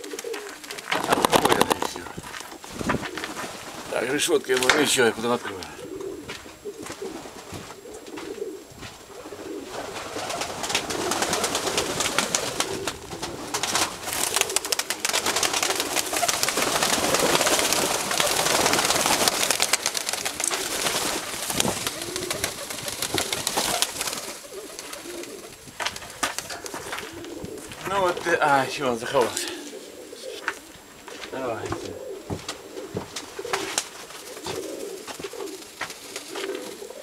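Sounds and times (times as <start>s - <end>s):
wings flapping and fluttering: 0.0s - 8.4s, 9.4s - 29.7s, 30.4s - 37.0s
pigeons cooing: 0.0s - 37.0s.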